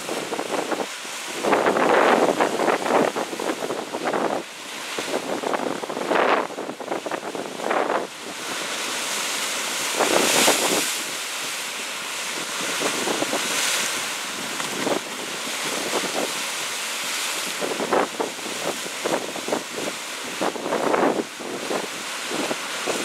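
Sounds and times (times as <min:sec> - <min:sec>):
sea waves breaking on rocks: 0:00.0 - 0:23.0
water splashing: 0:00.0 - 0:23.0.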